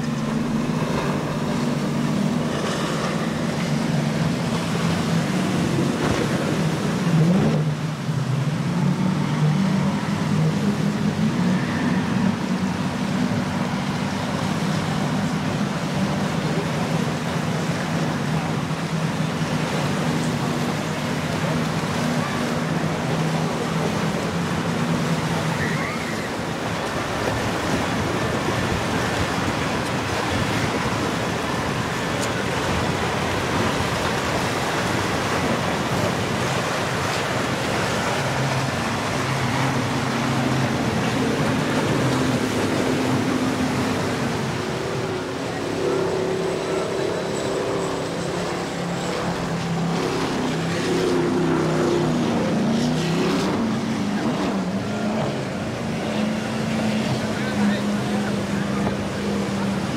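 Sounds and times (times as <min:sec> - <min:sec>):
powerboat engines droning: 0:00.0 - 0:59.9
rush of wake and surf: 0:00.0 - 0:59.9
wind: 0:00.0 - 0:59.9.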